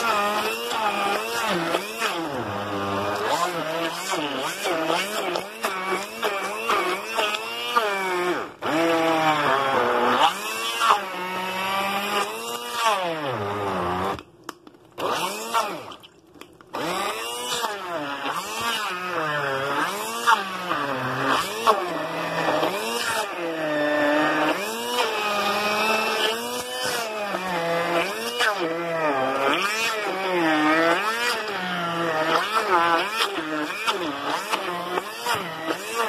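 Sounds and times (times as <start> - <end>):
blender motor whining: 0.0 - 36.0.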